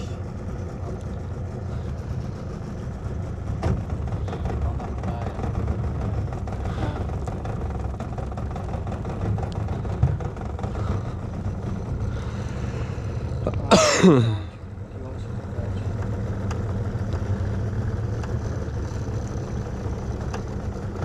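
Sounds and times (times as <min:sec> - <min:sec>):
boat motor idling: 0:00.0 - 0:21.0.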